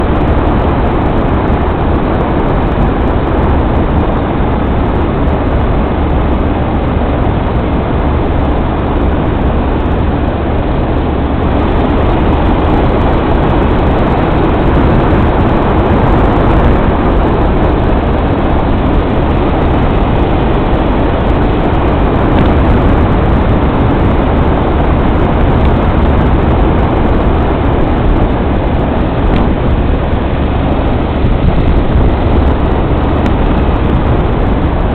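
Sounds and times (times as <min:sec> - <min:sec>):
vehicle road and engine rumble: 0:00.0 - 0:34.9.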